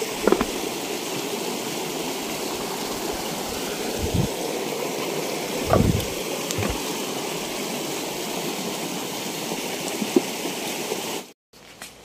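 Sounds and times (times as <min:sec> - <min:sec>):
stream water flowing: 0:00.0 - 0:11.3.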